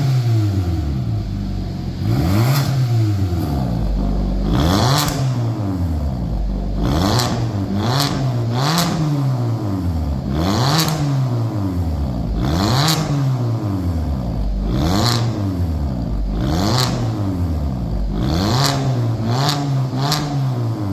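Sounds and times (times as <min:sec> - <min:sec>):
car engine revving: 0:00.0 - 0:20.9
exhaust cracks: 0:00.0 - 0:20.9.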